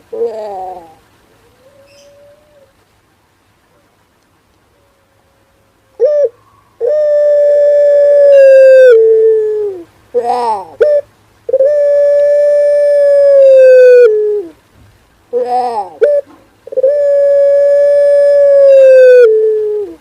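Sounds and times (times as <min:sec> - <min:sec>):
dove cooing: 0:00.0 - 0:02.8, 0:04.7 - 0:14.6, 0:15.3 - 0:20.0.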